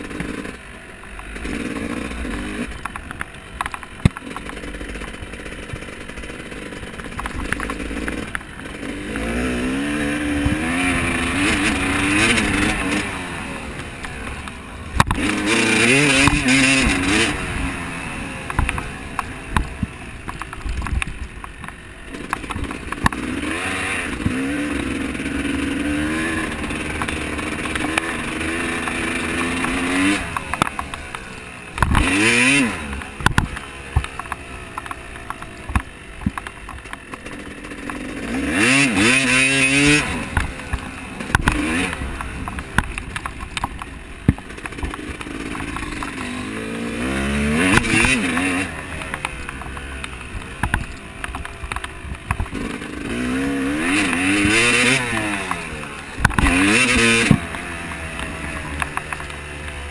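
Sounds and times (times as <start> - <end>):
dirt bike engine revving: 0.0 - 59.9
sharp clicks and knocks: 0.0 - 59.9.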